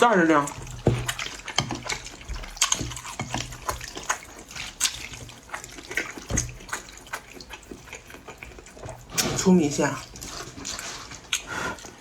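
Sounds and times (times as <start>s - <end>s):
liquid splashing and sloshing: 0.0s - 12.0s.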